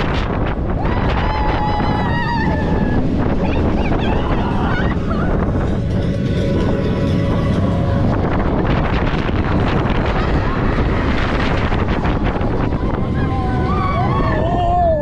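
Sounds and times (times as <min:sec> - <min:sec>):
coaster wheels rattling on track: 0:00.0 - 0:15.0
wind rushing over microphone: 0:00.0 - 0:15.0.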